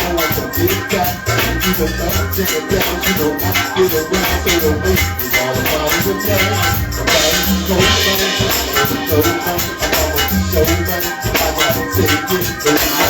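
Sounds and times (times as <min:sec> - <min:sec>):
bass line: 0:00.0 - 0:13.0
busy percussion: 0:00.0 - 0:13.0.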